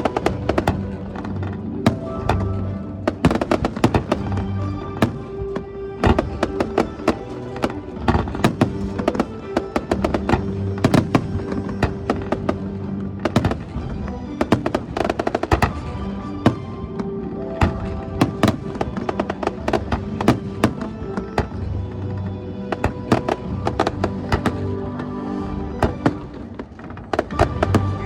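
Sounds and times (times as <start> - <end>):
fireworks bursting and crackling: 0.0 - 28.0
music of held notes: 0.0 - 28.0.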